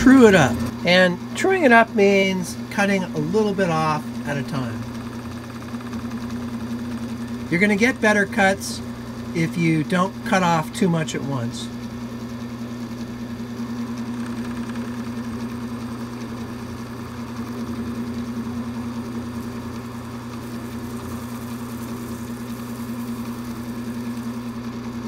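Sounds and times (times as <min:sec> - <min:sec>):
lathe motor humming: 0:00.0 - 0:25.0
lathe tool cutting wax: 0:00.0 - 0:25.0.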